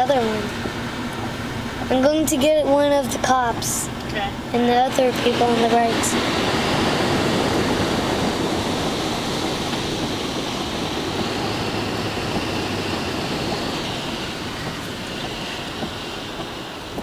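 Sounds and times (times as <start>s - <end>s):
road noise inside vehicle: 0.0s - 17.0s.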